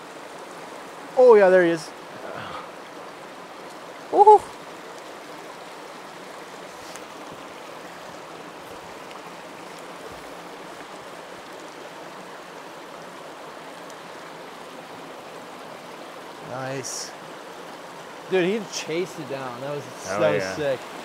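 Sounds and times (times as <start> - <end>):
stream flowing over rocks: 0.0 - 21.0.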